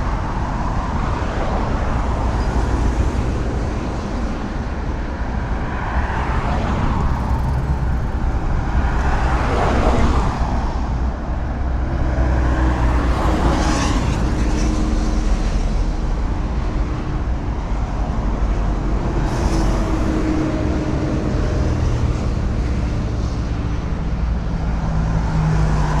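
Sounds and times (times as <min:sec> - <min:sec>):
highway traffic rumble: 0:00.0 - 0:26.0
vehicles passing by: 0:00.0 - 0:26.0.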